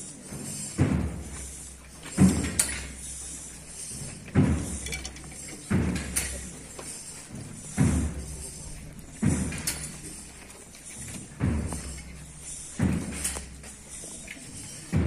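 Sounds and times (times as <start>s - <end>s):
drum beating slow march: 0.0s - 15.0s.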